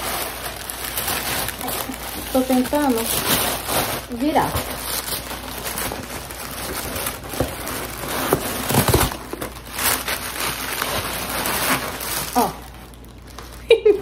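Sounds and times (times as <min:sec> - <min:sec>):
paper wrapping rustling: 0:00.0 - 0:14.0.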